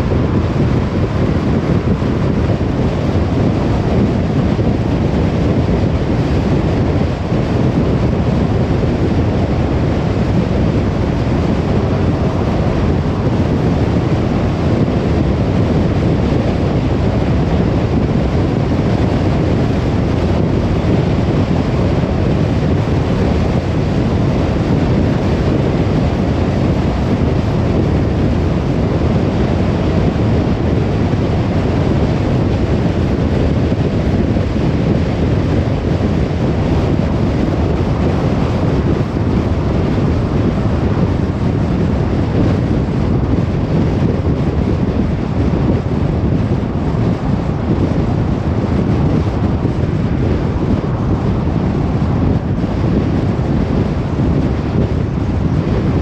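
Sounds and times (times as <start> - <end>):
car engine: 0.0 - 43.7, 44.3 - 53.1
tyre and road noise: 0.0 - 56.0.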